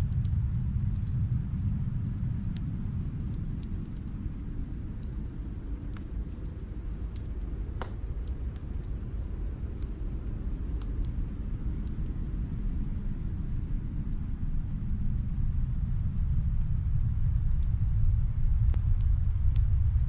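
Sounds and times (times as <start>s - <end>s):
low steady rumble: 0.0s - 20.0s
wood fire crackling: 0.0s - 20.0s.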